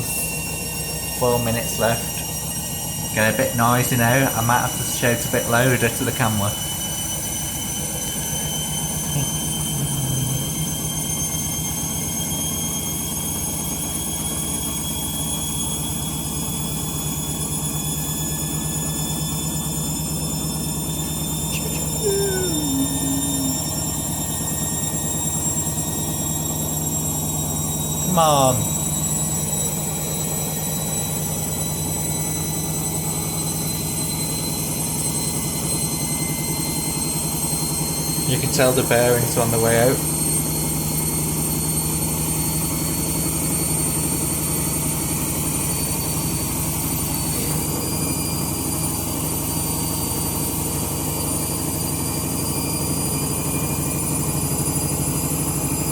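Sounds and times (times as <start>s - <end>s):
motor whine rising in pitch: 0.0s - 55.9s
washing machine spinning: 0.0s - 55.9s.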